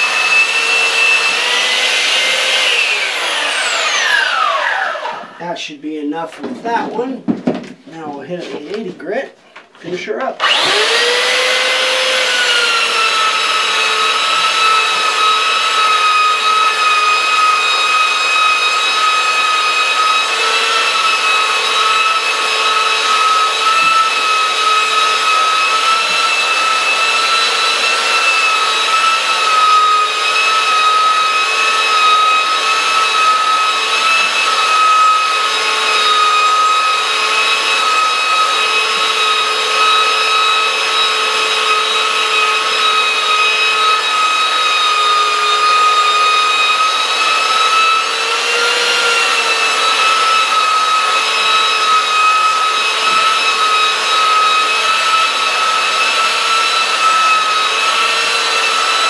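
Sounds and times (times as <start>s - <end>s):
belt sander motor whine: 0.0s - 5.4s, 10.4s - 59.0s.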